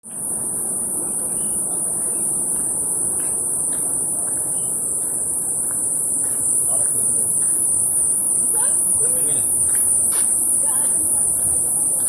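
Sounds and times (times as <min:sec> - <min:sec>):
insects droning shrilly: 0:00.1 - 0:12.0.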